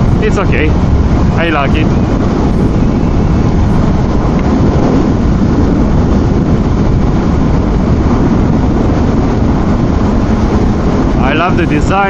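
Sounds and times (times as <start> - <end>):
road noise: 0.0 - 12.0
wind rush in helmet: 0.0 - 12.0.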